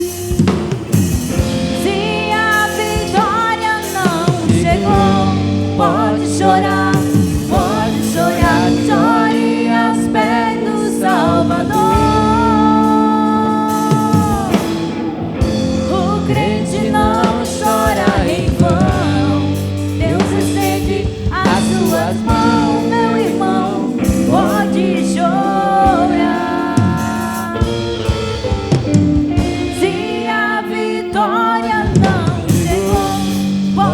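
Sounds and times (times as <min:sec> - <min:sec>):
live gospel band music: 0:00.0 - 0:33.9.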